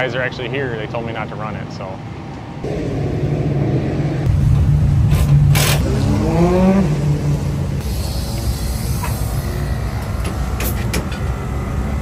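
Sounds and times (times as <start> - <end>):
race car engines running: 1.9 - 12.0.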